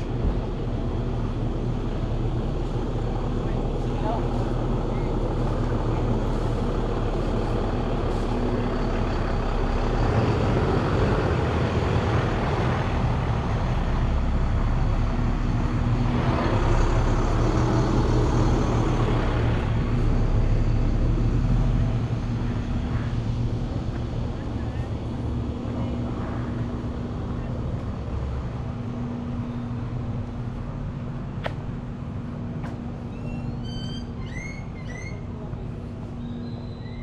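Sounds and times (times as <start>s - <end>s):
constant rushing noise: 0.0s - 37.0s
engine running steadily: 0.0s - 37.0s.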